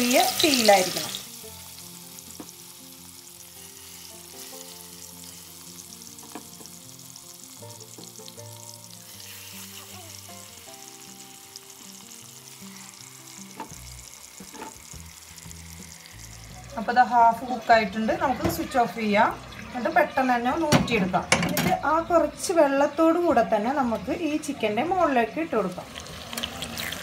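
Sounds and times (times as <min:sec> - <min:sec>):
chicken sizzling in hot oil: 0:00.0 - 0:27.0
soft background music: 0:00.0 - 0:27.0.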